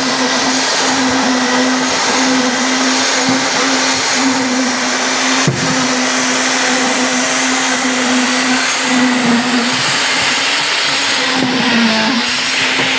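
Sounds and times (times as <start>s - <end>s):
loud even hiss: 0.0s - 12.9s
machine motor humming: 0.0s - 12.9s.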